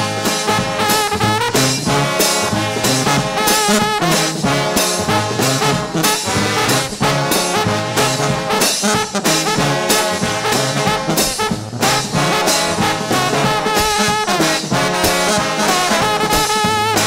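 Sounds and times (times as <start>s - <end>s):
trombone band playing: 0.0s - 17.0s.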